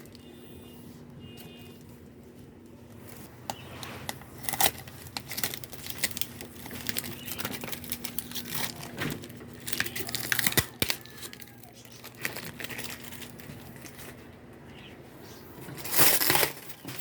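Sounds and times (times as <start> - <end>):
packaging material crinkling: 1.5 - 14.4, 15.6 - 17.0.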